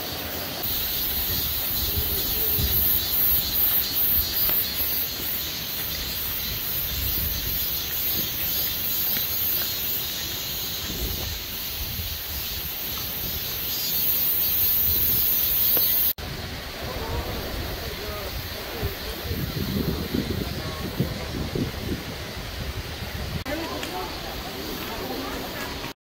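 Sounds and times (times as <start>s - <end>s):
outdoor hiss: 0.0s - 26.0s
wind rumbling on microphone: 0.6s - 25.9s.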